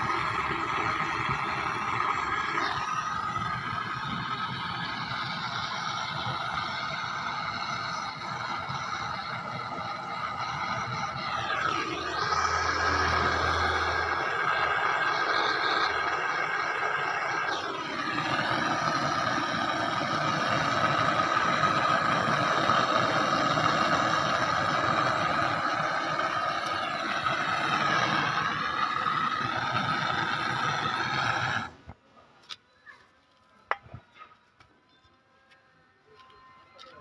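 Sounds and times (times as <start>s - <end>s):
gas blowtorch burning: 0.0s - 32.6s.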